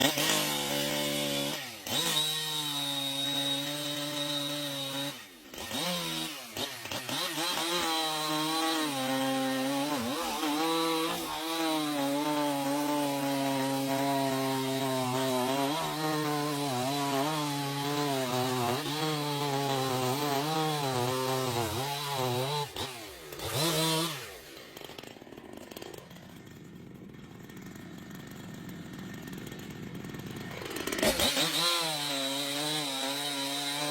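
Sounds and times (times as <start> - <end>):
chainsaw cutting through tree: 0.0 - 33.9.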